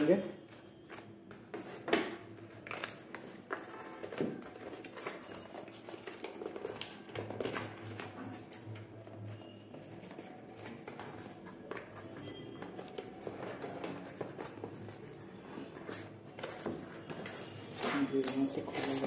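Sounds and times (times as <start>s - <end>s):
cardboard parcel tapping and scraping: 0.4s - 19.0s.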